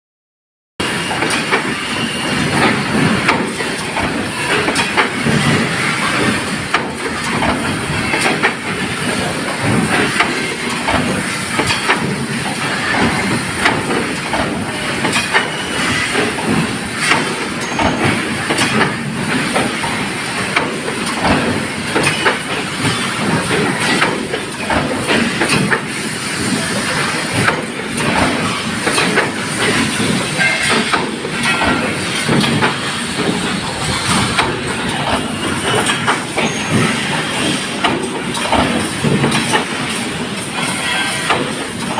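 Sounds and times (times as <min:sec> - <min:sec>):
stamping press clattering: 0:02.4 - 0:25.8, 0:27.4 - 0:40.3.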